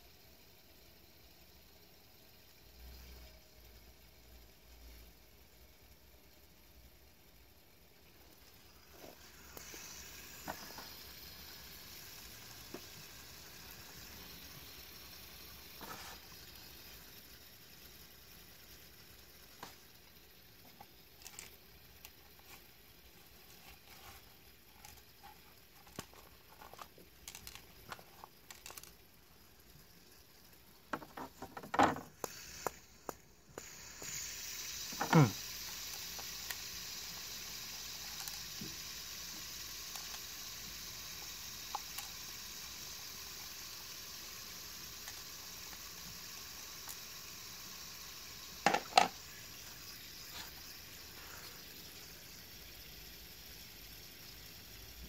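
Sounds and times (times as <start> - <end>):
fidget spinner clicks and rubbing: 0.0 - 53.0
spinning bearing whir: 0.0 - 55.0.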